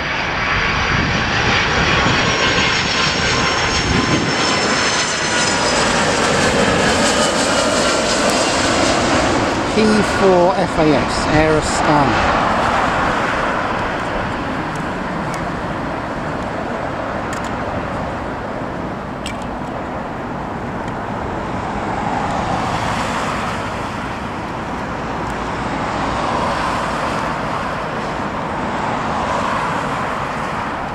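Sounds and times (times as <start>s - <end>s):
jet airliner rushing noise: 0.0s - 30.9s
passing road traffic: 0.0s - 30.9s.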